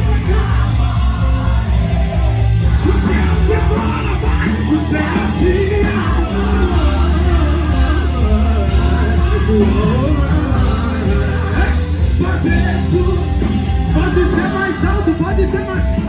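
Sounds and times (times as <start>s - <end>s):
congregation singing and shouting: 0.0s - 16.0s
loud worship music: 0.0s - 16.0s.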